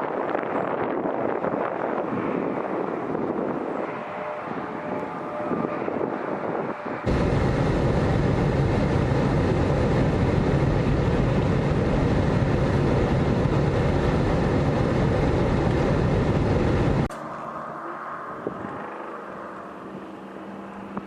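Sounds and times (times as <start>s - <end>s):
wind rushing over microphone: 0.0s - 17.1s, 18.3s - 19.2s.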